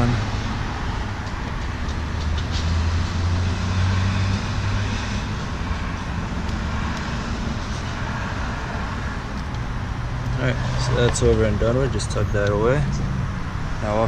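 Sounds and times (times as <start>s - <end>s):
passing vehicle engine hum: 0.0s - 14.0s
road traffic noise: 0.0s - 14.0s.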